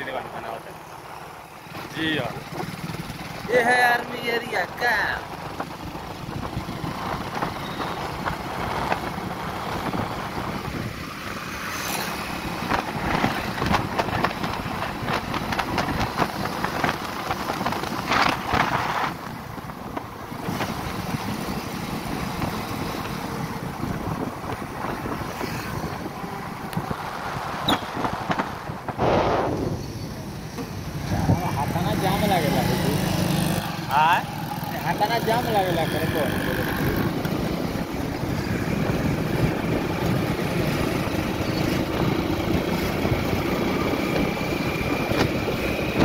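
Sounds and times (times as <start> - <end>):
road traffic: 0.0 - 46.0
wind buffeting microphone: 5.3 - 11.3, 12.3 - 33.8, 35.4 - 46.0.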